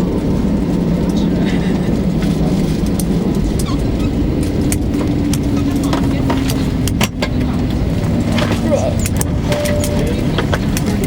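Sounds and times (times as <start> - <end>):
airplane cabin engine drone: 0.0 - 11.0
faint passenger chatter: 0.0 - 11.0.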